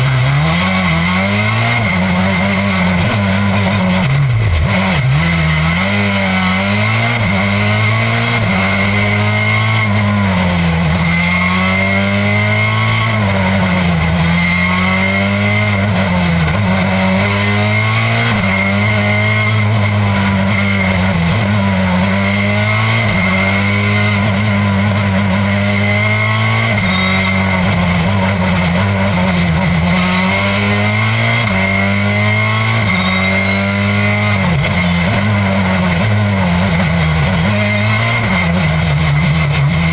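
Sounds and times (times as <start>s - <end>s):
rally car engine accelerating: 0.0s - 39.9s.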